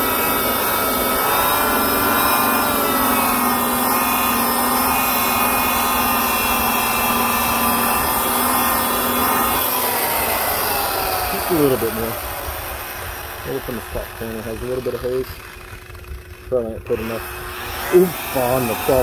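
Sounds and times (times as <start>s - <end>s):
electric buffer motor whine: 0.0s - 19.0s.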